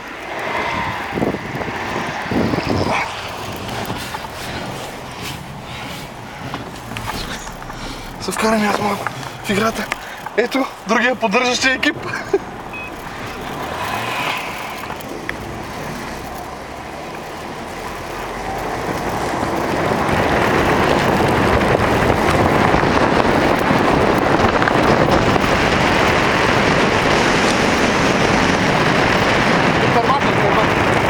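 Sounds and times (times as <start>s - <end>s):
car driving across snow: 0.0s - 31.0s.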